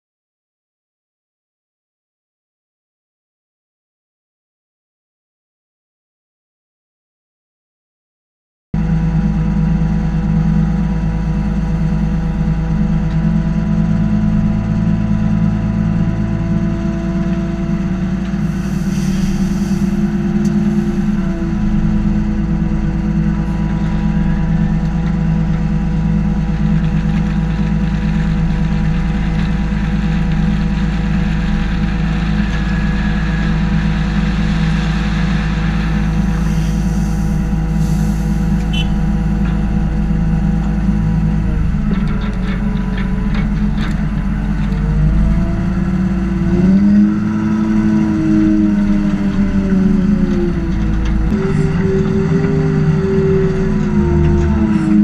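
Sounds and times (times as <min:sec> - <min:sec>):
diesel engine idling and revving: 0:08.8 - 0:55.0.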